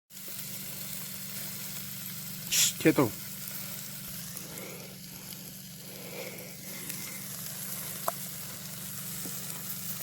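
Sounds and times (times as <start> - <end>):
butter sizzling: 0.1 - 10.0.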